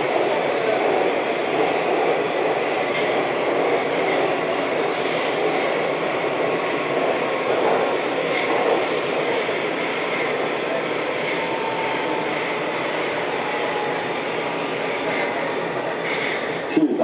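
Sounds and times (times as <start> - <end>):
train rumbling through tunnel: 0.0 - 17.0.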